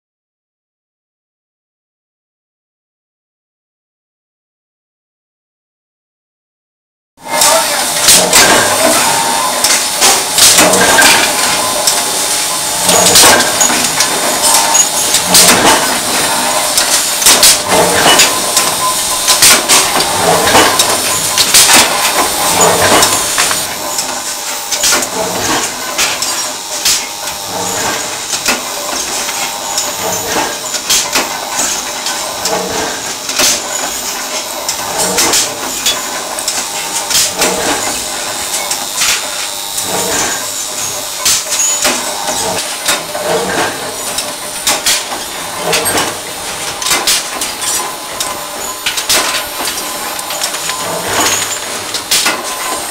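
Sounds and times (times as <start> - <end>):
machine hum: 7.2 - 52.9.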